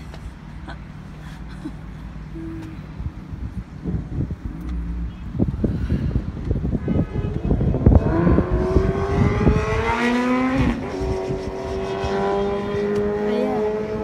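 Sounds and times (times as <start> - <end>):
car engine accelerating: 2.3 - 14.0.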